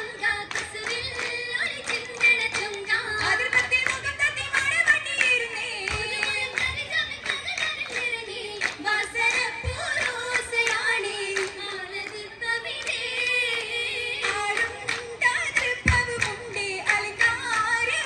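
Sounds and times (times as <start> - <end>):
sharp hand claps: 0.0 - 18.0
singers through a pa system: 0.0 - 18.0.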